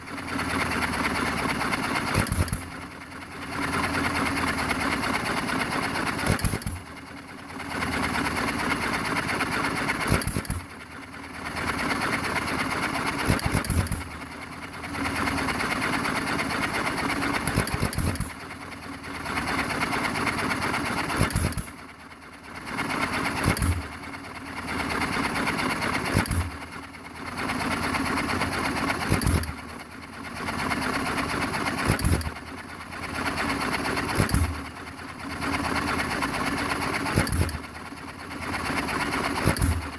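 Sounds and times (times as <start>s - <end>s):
engine firing with sharp bangs: 0.0s - 39.9s.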